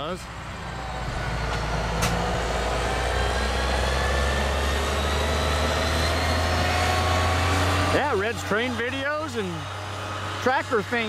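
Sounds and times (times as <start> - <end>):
diesel engine hum: 0.0 - 11.0
high machine whine: 0.0 - 11.0.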